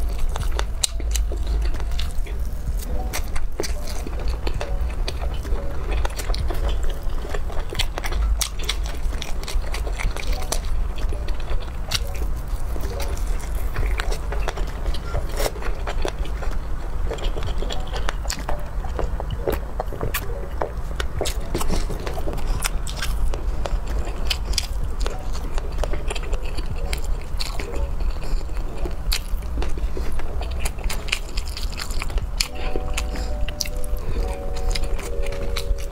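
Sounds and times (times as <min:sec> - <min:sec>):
chewing: 0:00.0 - 0:35.9
steady low hum: 0:00.0 - 0:35.9.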